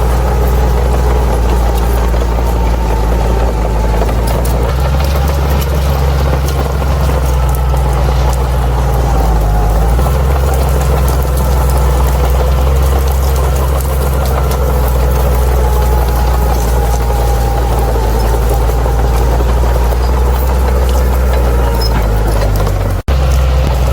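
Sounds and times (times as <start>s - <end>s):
bulldozer diesel engine running: 0.0s - 23.9s.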